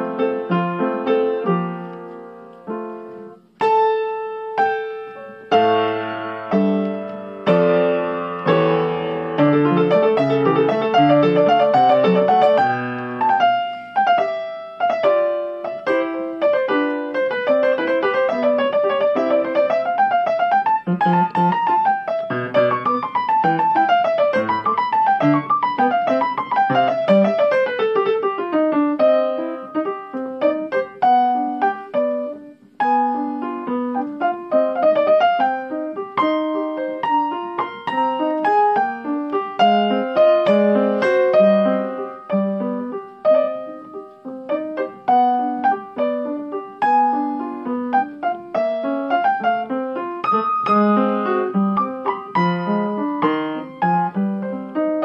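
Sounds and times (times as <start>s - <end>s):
upright piano playing: 0.0s - 55.0s.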